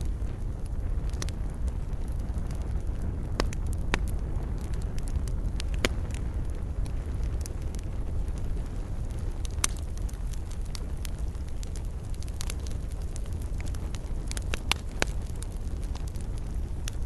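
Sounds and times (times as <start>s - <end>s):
burning wood crackling: 0.0s - 17.0s
campfire flames rumbling: 0.0s - 17.0s.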